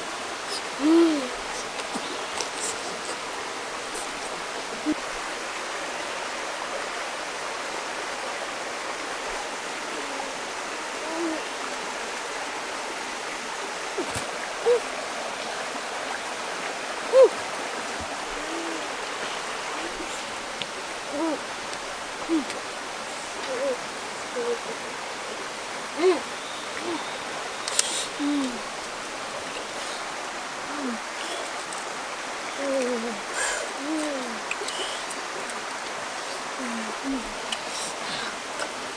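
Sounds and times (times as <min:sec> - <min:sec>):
stream running over stones: 0:00.0 - 0:38.9.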